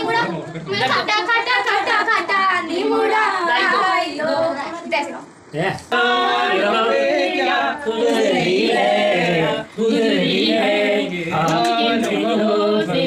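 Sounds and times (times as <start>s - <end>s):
people singing unaccompanied: 0.0s - 4.6s, 5.9s - 13.0s.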